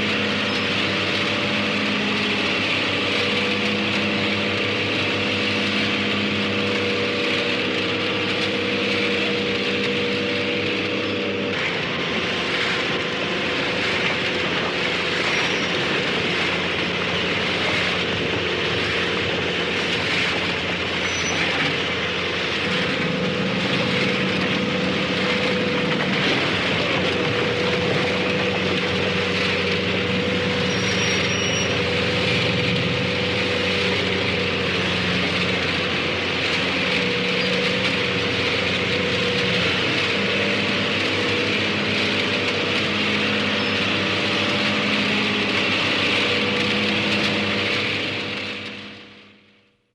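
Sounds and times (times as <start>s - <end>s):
harvester engine drone: 0.0s - 49.9s
threshing machinery noise: 0.0s - 49.9s.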